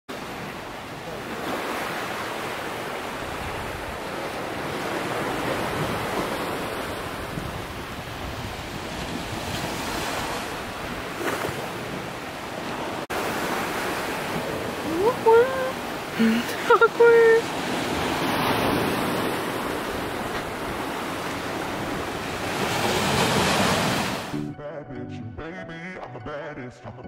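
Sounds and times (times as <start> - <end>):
ocean surf on beach: 0.1 - 24.4.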